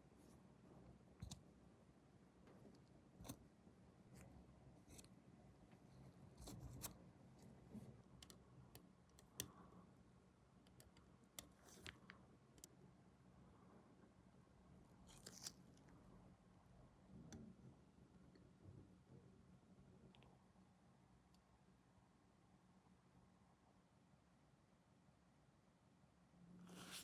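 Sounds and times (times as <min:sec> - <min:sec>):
faint low room hum: 0:00.0 - 0:27.0.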